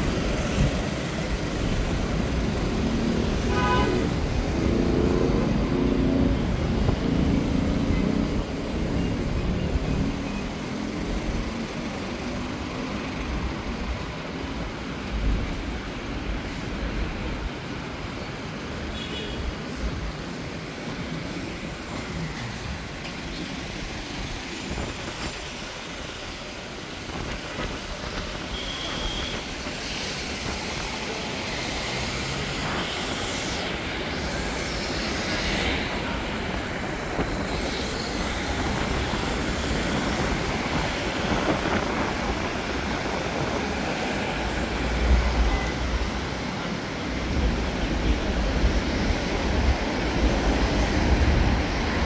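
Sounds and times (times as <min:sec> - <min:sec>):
vehicle noise: 0:00.0 - 0:52.0.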